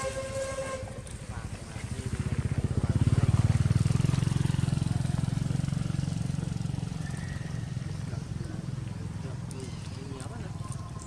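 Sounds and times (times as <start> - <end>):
motor vehicle engine passing: 0.0 - 11.0.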